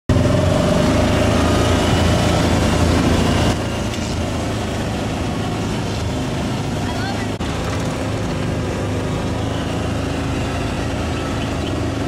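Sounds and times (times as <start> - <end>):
truck engines running: 0.1 - 12.0.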